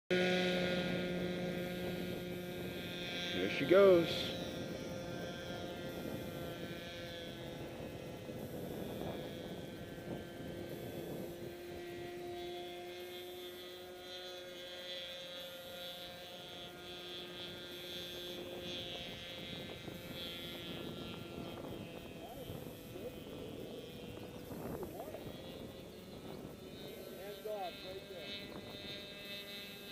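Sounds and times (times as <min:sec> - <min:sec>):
model plane motor humming: 0:00.1 - 0:29.9.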